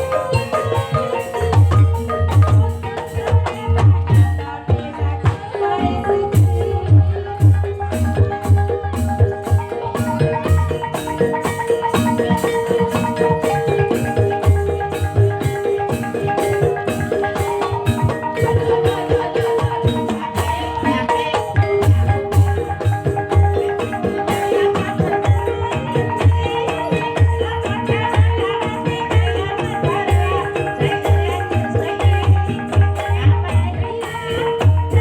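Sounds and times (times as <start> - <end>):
drum beat: 0.0 - 5.5, 6.4 - 35.0
gamelan music: 0.0 - 35.0.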